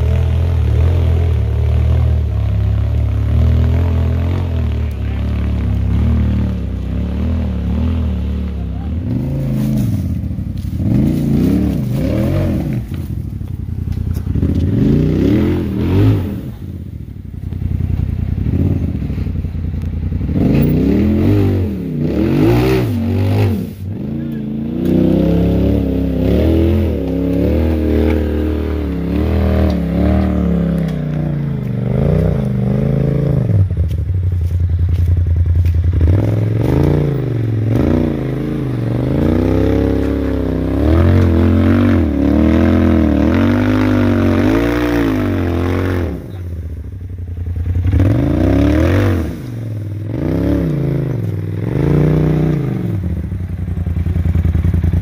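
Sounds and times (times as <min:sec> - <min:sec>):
engine revving: 0:00.0 - 0:13.2, 0:13.9 - 0:16.9, 0:17.8 - 0:19.4, 0:20.0 - 0:55.0.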